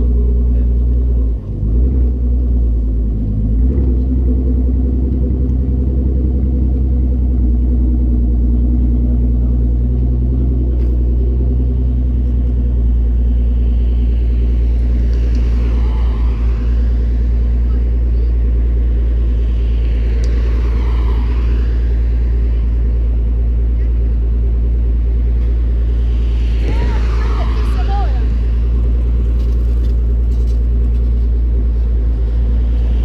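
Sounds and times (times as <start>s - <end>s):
car exhaust idling deep: 0.0s - 33.0s.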